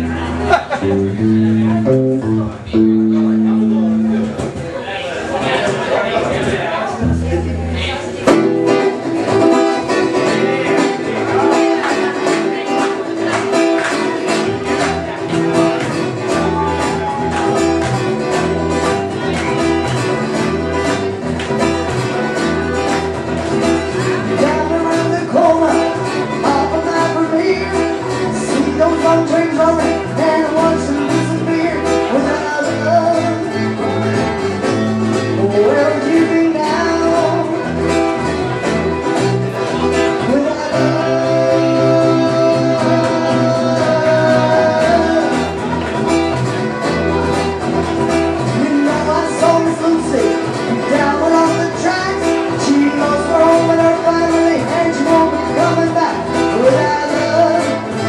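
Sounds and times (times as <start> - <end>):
lead guitar bending melody: 0.0 - 4.8, 7.0 - 58.0
bass guitar: 0.0 - 58.0
strummed acoustic guitar: 0.0 - 58.0.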